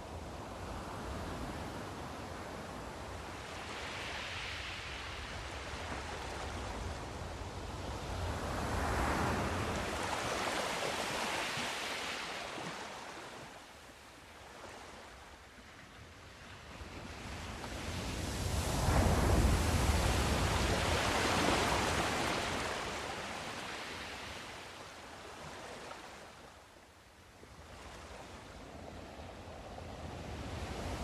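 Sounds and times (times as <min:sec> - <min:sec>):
waves breaking on shore: 0:00.8 - 0:15.8, 0:16.6 - 0:26.6.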